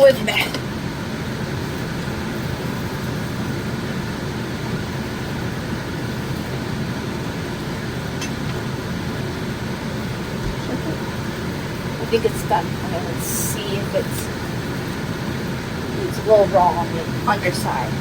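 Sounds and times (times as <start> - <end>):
fan running: 0.0 - 18.0.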